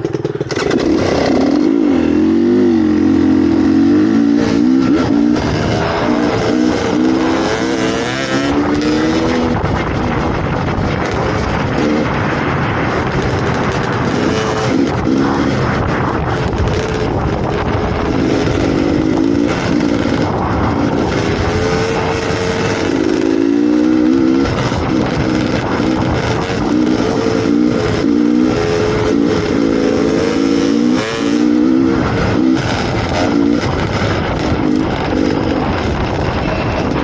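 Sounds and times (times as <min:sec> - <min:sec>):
dirt bike engine revving: 0:00.0 - 0:37.0
steady rushing noise: 0:00.0 - 0:37.0.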